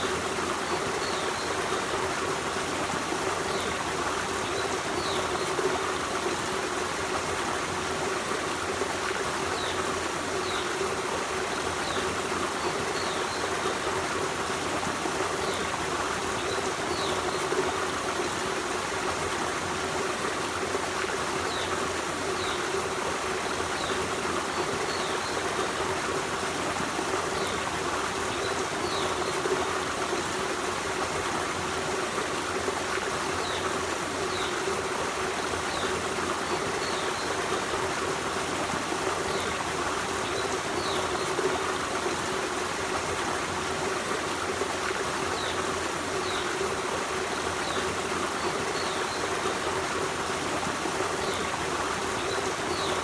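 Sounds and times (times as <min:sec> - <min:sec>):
stream flowing over stones: 0:00.0 - 0:53.0.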